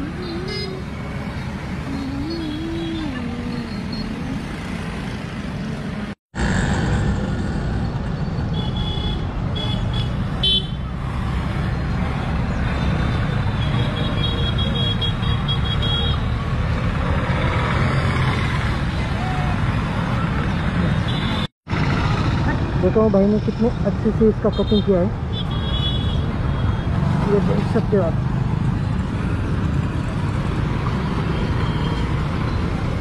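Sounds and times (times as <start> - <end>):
street traffic noise: 0.0 - 33.0.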